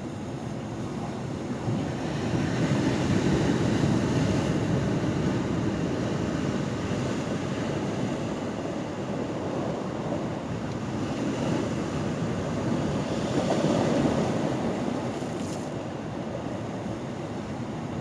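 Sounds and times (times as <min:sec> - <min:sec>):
ocean surf washing in: 0:00.0 - 0:18.0.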